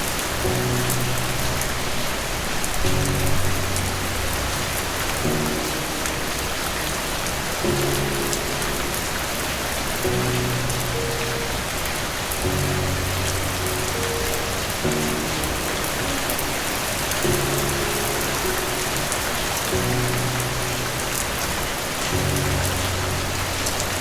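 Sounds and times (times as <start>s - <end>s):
heavy rain falling: 0.0s - 24.0s
soft low music chords: 0.0s - 24.0s.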